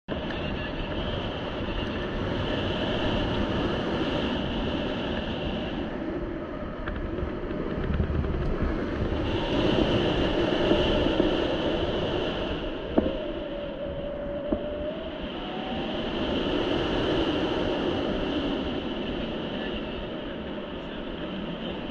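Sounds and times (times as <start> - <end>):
wind buffeting microphone: 0.1 - 21.9.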